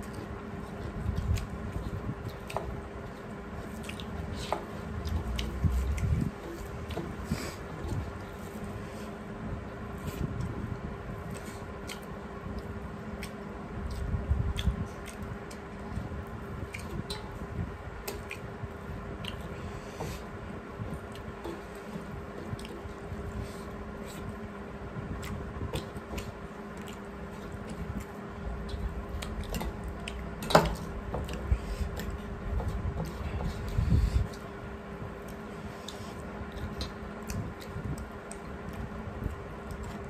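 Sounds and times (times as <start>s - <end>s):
chewing and lip smacks: 0.0s - 8.7s, 11.2s - 17.2s, 18.0s - 20.2s, 20.9s - 23.4s, 25.1s - 34.5s, 35.2s - 40.0s.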